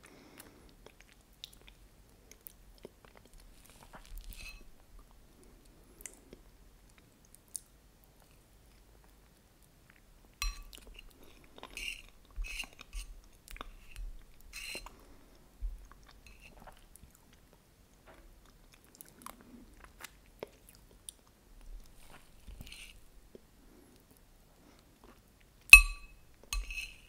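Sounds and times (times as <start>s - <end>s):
close chewing and mouth sounds: 0.0s - 25.6s.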